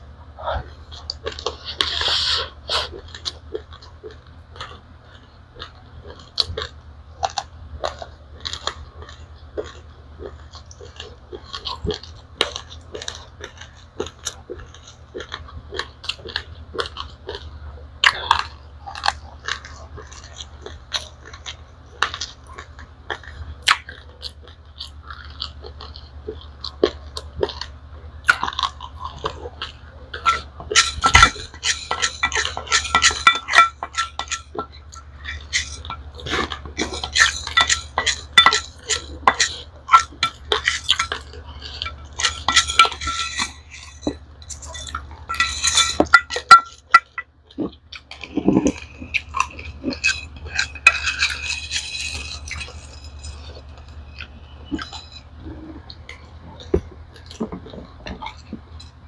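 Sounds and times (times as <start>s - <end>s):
low steady hum: 0.0s - 59.0s
person chewing crunchy rice: 0.0s - 59.0s.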